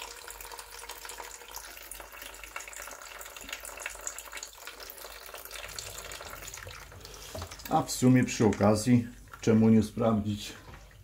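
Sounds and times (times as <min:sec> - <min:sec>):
thin stream of water running: 0:00.0 - 0:11.0.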